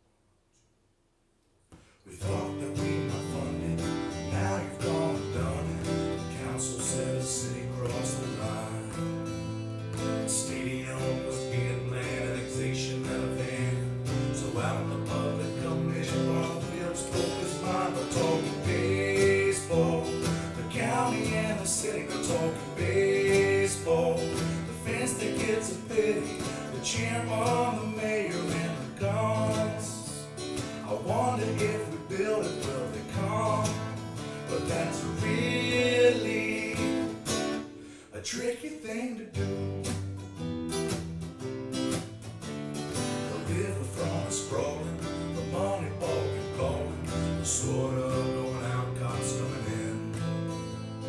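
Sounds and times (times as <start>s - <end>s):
strummed acoustic guitar: 1.7s - 51.0s.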